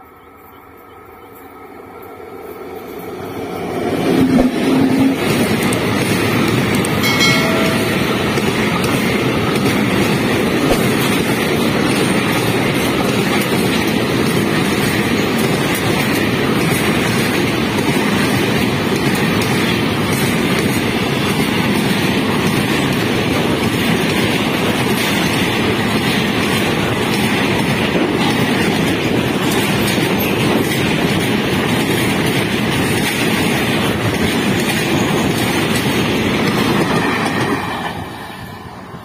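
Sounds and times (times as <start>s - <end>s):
train wheels on rails: 0.0s - 39.0s.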